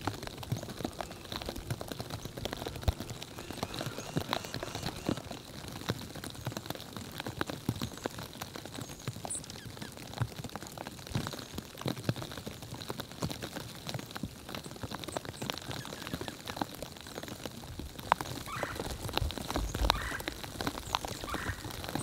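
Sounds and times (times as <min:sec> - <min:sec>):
rain pattering on surfaces: 0:00.0 - 0:22.0.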